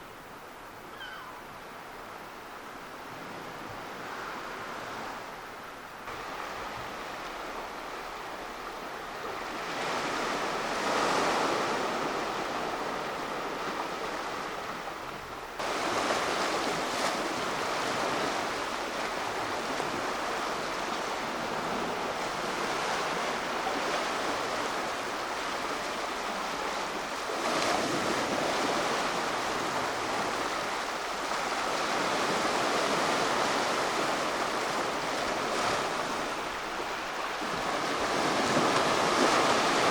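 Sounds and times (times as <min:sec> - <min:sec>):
waves breaking: 0:00.1 - 0:39.9
surf washing onto shore: 0:01.4 - 0:39.9.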